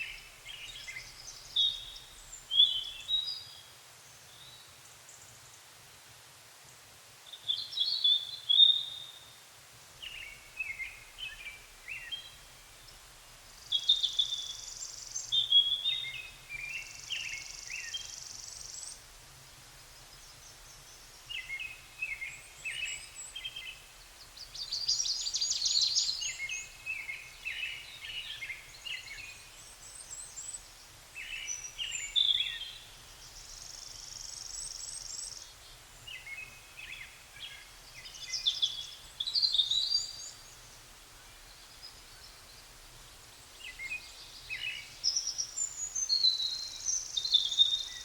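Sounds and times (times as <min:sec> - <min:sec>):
songbirds singing: 0:00.0 - 0:05.6, 0:07.2 - 0:48.0.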